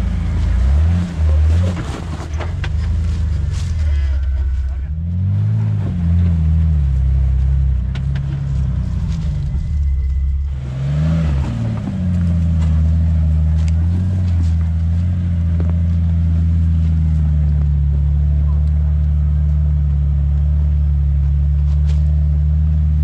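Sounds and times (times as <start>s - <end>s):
car engine running low revs: 0.0s - 23.0s.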